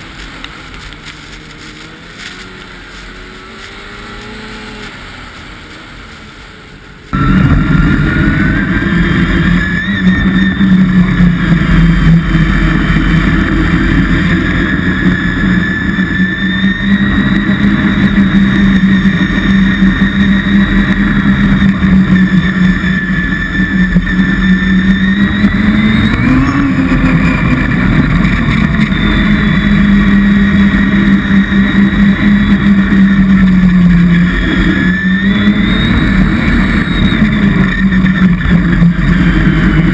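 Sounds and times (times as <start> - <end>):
low rumble: 0.0 - 39.9
vehicle engine running: 0.0 - 39.9.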